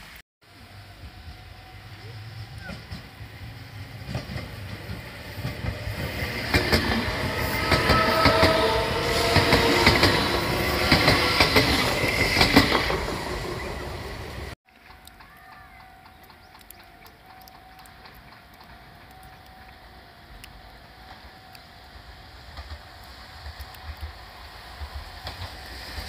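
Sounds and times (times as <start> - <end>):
train rolling noise: 0.0 - 26.0
train whine: 0.0 - 26.0
wheels clicking over rail joints: 2.6 - 13.7, 14.4 - 26.0.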